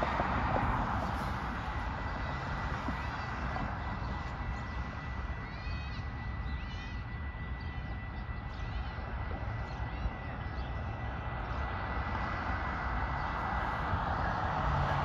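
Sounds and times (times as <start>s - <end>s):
thin high whine: 0.0s - 15.0s
train rumbling: 0.0s - 15.0s.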